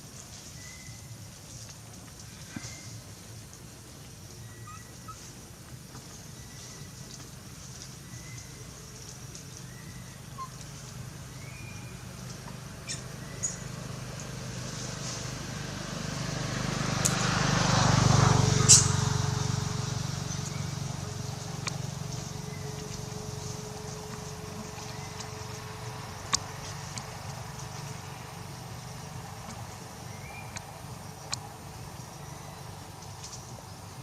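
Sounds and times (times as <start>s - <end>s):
motor vehicle passing by: 0.3s - 34.0s.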